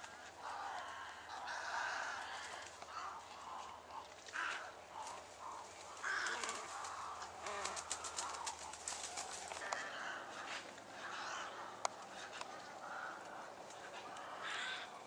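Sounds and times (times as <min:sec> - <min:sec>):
wild birds calling: 0:00.0 - 0:15.0.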